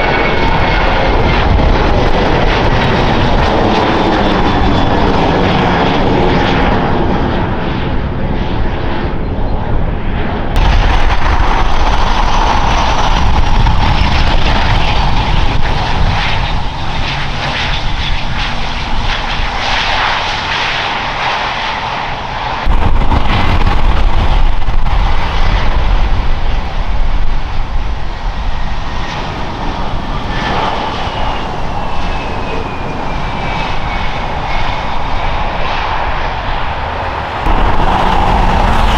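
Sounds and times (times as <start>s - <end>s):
jet engines roaring: 0.0s - 38.9s.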